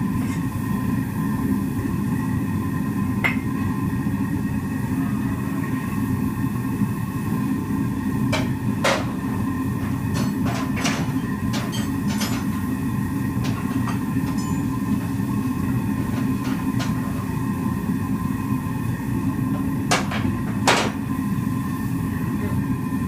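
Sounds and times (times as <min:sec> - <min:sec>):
fire rumbling with faint whine: 0:00.0 - 0:23.0.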